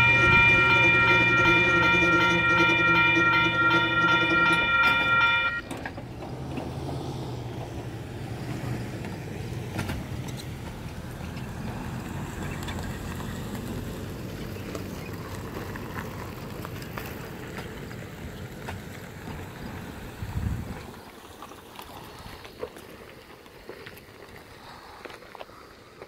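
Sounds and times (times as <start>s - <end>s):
cars driving over railroad crossing: 0.0s - 23.0s.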